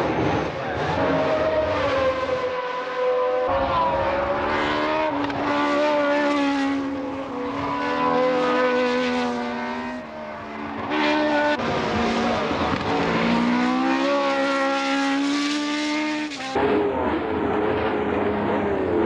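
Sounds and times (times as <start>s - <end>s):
racing car engines passing: 0.0s - 19.0s.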